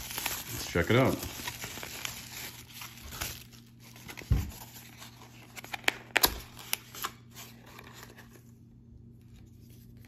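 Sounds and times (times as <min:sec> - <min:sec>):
bubble wrap crinkling: 0:00.0 - 0:08.5.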